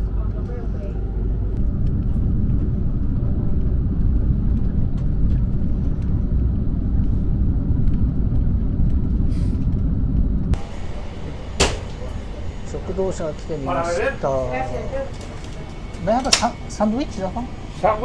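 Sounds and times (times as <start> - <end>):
train interior rumble: 0.0 - 18.0.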